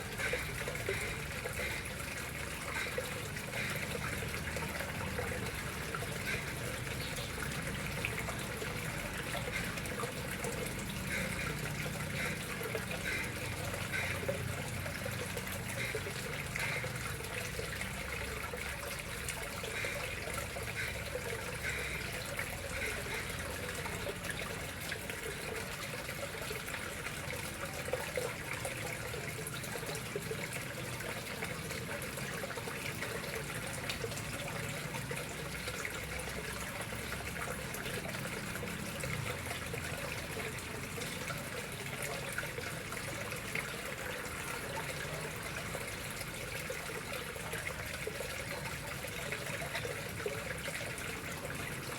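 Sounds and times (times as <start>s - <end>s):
water trickling into pond: 0.0s - 51.9s.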